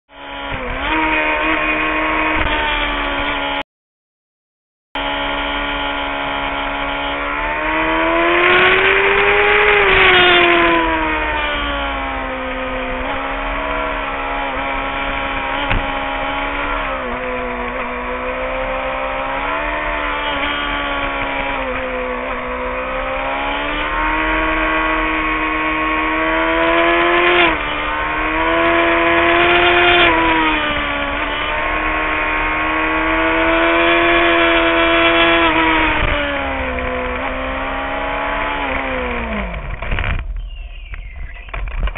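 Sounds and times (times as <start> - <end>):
motorcycle engine running: 5.0 - 41.9.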